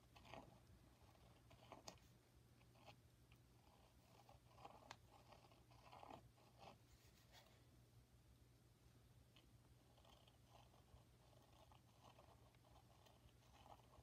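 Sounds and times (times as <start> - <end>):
woodburning pen scratching: 0.0 - 7.6, 9.4 - 14.0.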